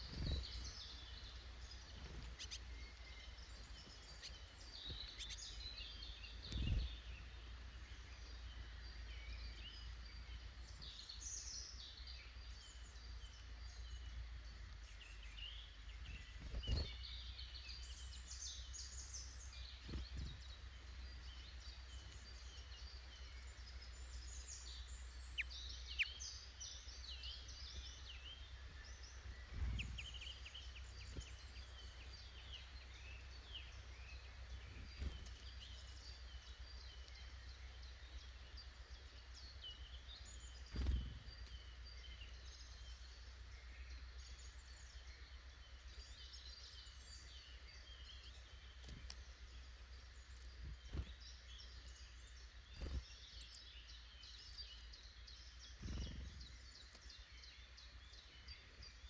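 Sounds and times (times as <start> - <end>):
birds singing and chirping: 0.0 - 59.0.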